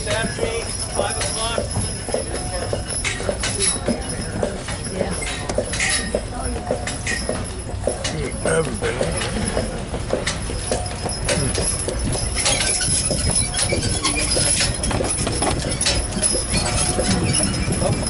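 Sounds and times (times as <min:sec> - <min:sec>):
horse hooves clip-clopping on road: 0:00.0 - 0:18.0.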